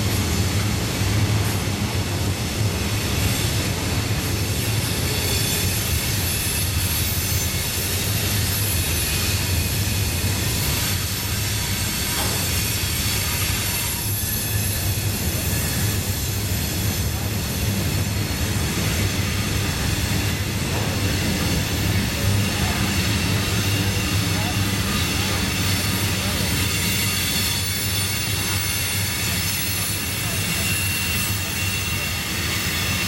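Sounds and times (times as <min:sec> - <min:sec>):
freight train wheels rumbling: 0:00.0 - 0:33.0
high wheel squeal: 0:04.4 - 0:33.0.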